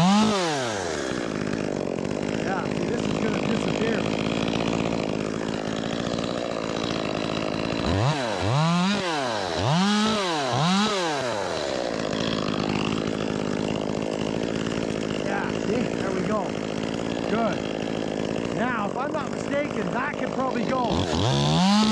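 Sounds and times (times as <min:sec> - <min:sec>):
chainsaw idling and revving: 0:00.0 - 0:21.9.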